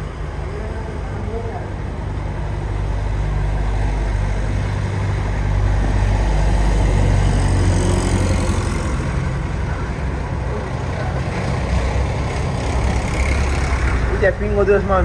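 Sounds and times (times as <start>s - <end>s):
tractor engine driving past: 0.0s - 15.0s.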